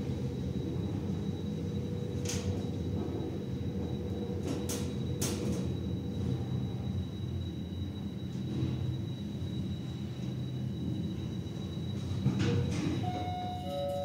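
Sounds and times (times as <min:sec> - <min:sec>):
elevator hum: 0:00.0 - 0:14.0
faint steady whine: 0:00.0 - 0:14.0.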